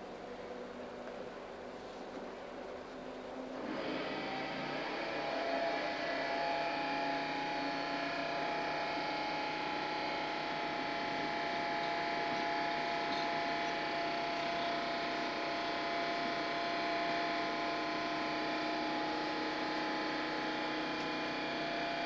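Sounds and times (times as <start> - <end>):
constant tone: 0.0 - 22.0.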